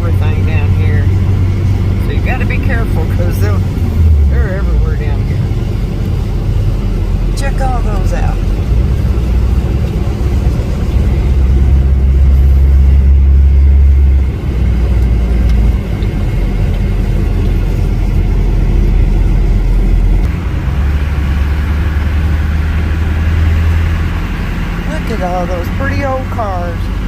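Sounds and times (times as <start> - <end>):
vehicle engine and road drone: 0.0 - 27.0.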